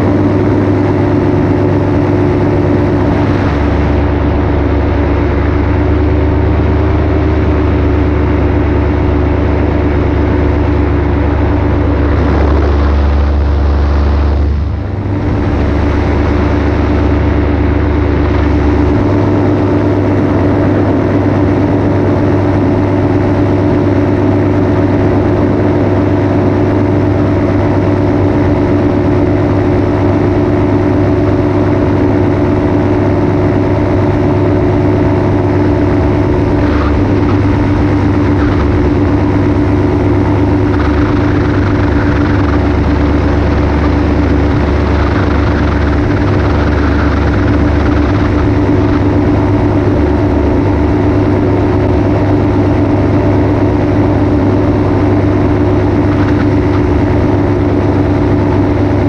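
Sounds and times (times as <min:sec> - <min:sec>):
heavy low rumble: 0:00.0 - 0:59.0
paramotor engine and propeller: 0:00.0 - 0:59.0.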